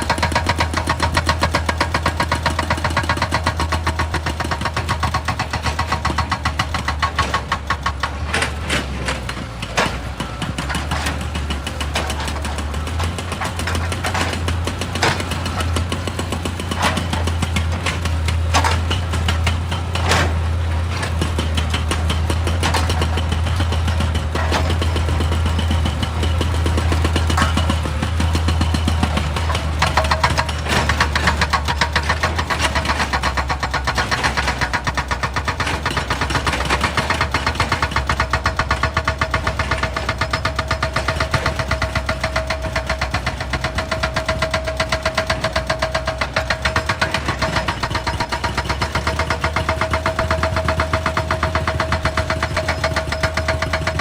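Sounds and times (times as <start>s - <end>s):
clatter of knocks: 0.0s - 54.0s
diesel engine under load: 0.0s - 54.0s.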